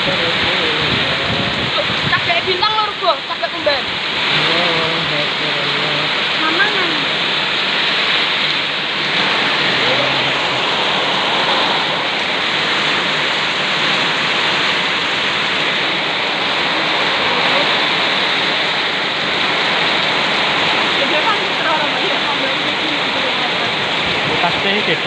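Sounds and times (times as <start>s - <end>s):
heavy rain on street and roofs: 0.0s - 25.0s.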